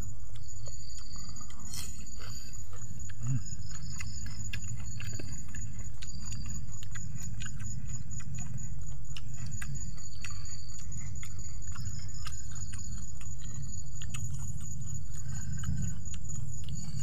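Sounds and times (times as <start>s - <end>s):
people chewing and lip smacking: 0.0s - 17.0s.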